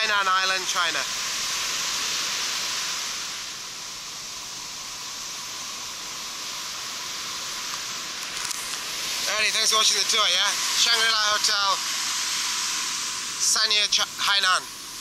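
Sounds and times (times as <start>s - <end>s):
surf washing onto beach: 0.0s - 15.0s.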